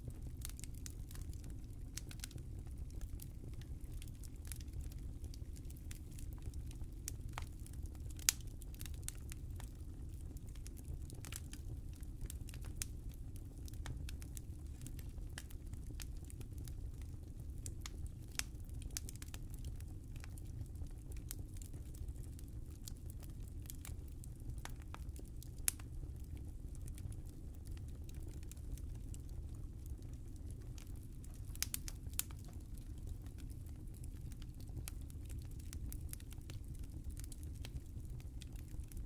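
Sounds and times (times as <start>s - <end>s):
low rumble of flames: 0.0s - 39.0s
wood fire crackling: 0.0s - 39.0s.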